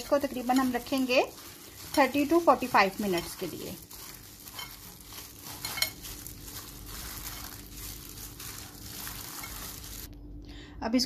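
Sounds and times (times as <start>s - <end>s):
wet squelching of kneaded meat: 0.0s - 10.2s.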